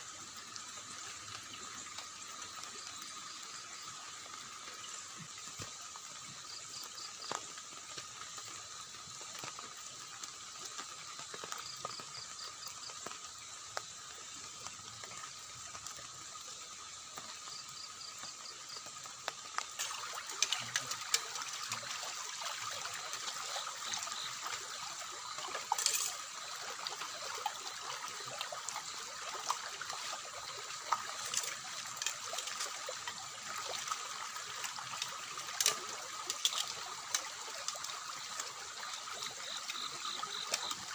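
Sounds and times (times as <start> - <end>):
rain: 0.0 - 40.9
running and trickling water: 0.0 - 40.9.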